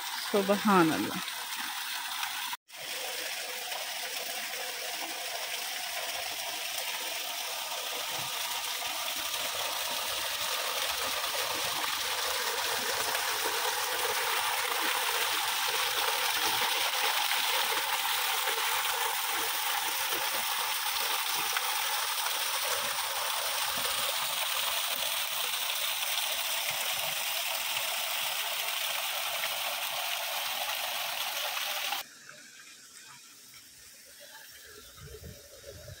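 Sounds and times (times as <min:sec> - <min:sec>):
waterfall splashing into pool: 0:00.0 - 0:33.8.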